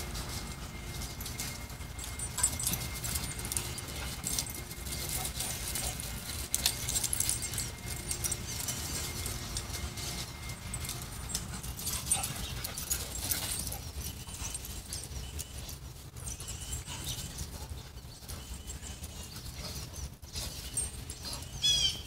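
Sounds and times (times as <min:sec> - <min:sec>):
dogs playing rough: 0:00.0 - 0:21.6
light metallic jingling: 0:00.0 - 0:22.0.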